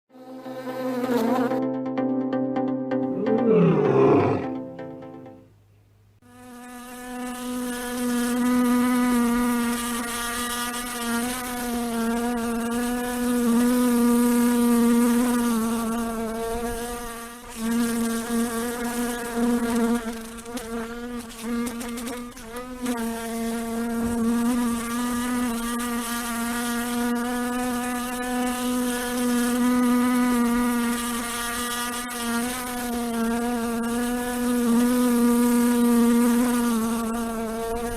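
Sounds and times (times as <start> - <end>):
fly buzzing: 0.1 - 1.7, 3.1 - 4.6, 6.2 - 37.9.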